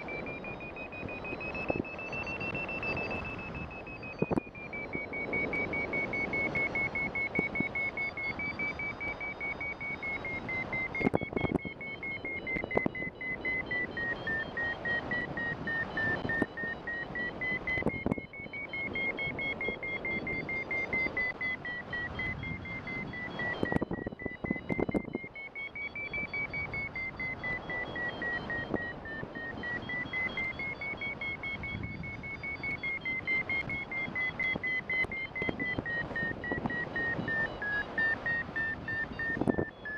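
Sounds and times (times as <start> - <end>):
variometer beeping rapidly: 0.0 - 39.9.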